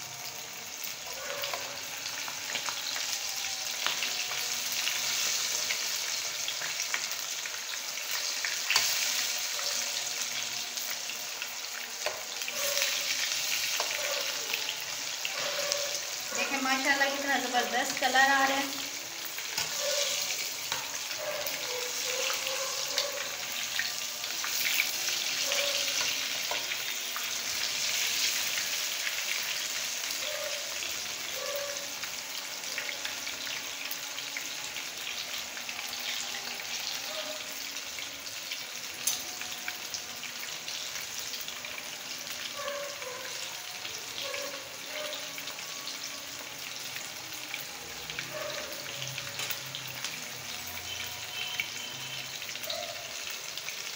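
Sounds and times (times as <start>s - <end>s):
fish frying in hot oil: 0.0s - 53.9s.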